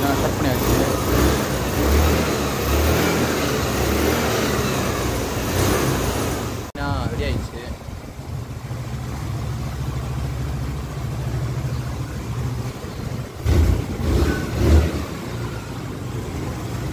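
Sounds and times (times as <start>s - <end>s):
scooter engine idling and revving: 0.0s - 16.9s.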